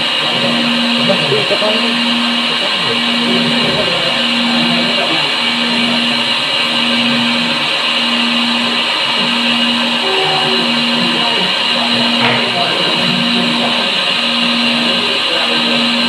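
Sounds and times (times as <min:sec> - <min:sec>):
cnc machine whining: 0:00.0 - 0:16.0
pulsing low hum: 0:00.0 - 0:16.0.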